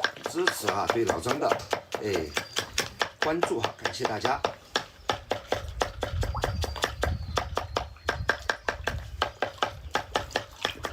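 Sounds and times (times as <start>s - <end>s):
knife chopping on cutting board: 0.0s - 10.9s.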